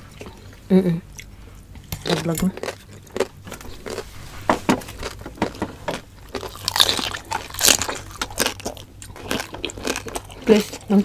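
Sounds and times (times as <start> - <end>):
crunching and chewing crispy skin: 0.0 - 11.0.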